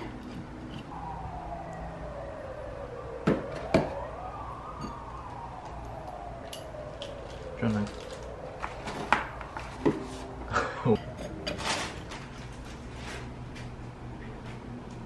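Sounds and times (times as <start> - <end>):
siren wailing: 0.0 - 12.4.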